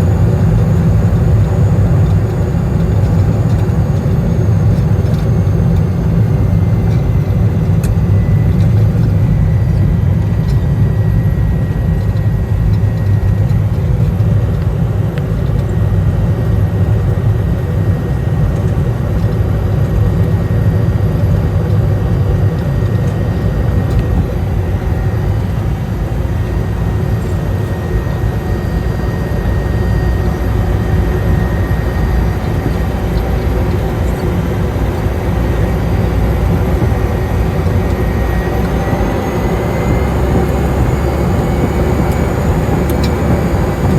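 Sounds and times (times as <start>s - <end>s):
turboprop engine droning: 0.0s - 43.9s.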